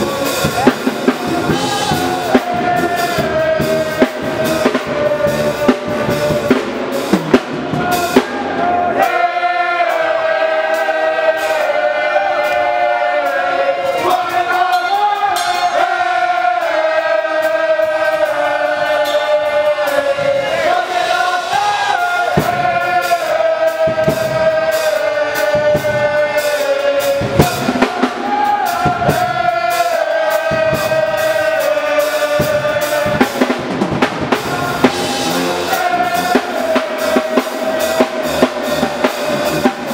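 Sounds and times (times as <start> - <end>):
bass drums: 0.0 - 14.7, 15.8 - 39.9
pep band brass playing: 0.0 - 39.9.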